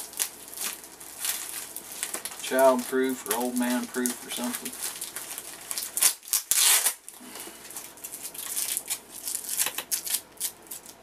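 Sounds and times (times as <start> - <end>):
plastic envelope tearing: 0.0 - 11.0.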